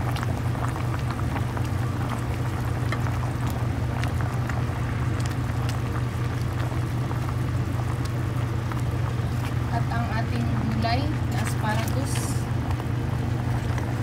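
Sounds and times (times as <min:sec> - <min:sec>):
pot boiling with bubbling pops: 0:00.0 - 0:14.0.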